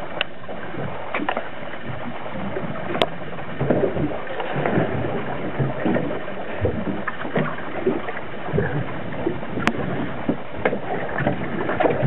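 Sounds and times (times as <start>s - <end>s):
water slapping against hull: 0.0s - 12.0s.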